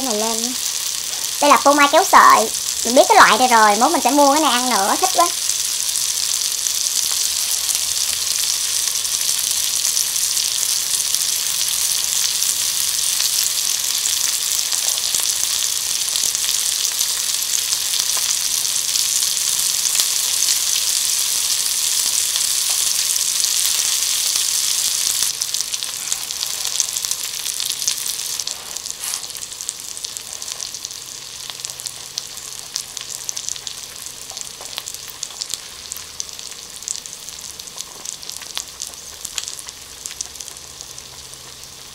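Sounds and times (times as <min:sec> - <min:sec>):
food sizzling on grill pan: 0:00.0 - 0:41.9.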